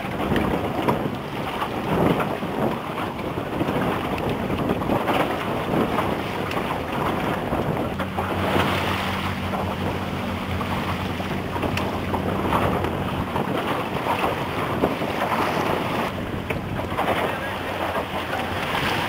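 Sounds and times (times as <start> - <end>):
sea water rushing and slapping: 0.0 - 19.0
wind buffeting microphone: 0.0 - 19.0.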